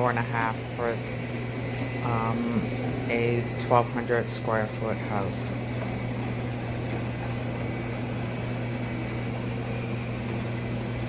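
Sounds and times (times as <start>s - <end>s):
robot vacuum motor hum: 0.0s - 11.0s.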